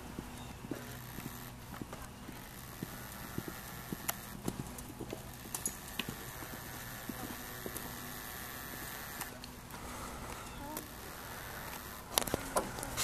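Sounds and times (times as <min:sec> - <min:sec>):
horse hoofbeats on dirt: 0:00.0 - 0:13.0.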